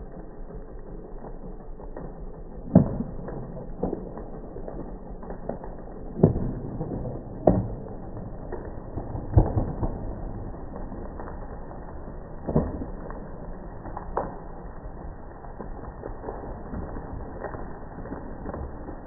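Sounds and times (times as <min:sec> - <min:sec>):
steady low background noise: 0:00.0 - 0:19.0.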